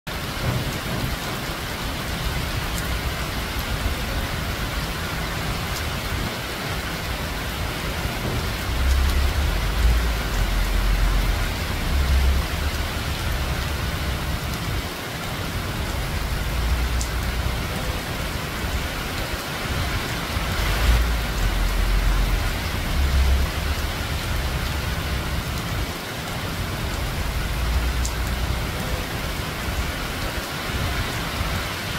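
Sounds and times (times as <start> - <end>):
low rumbles: 0.1 - 30.2
rain on foliage: 0.1 - 31.9.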